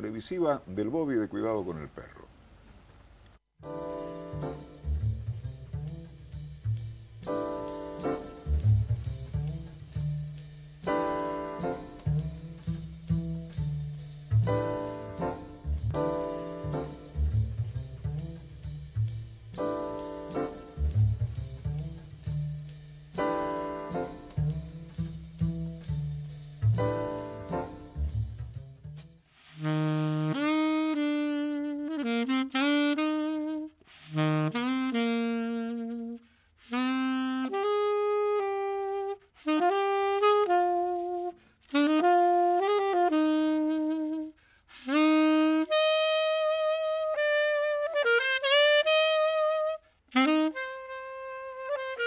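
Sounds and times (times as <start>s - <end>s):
alto saxophone solo melody: 3.6s - 13.7s, 14.3s - 52.0s.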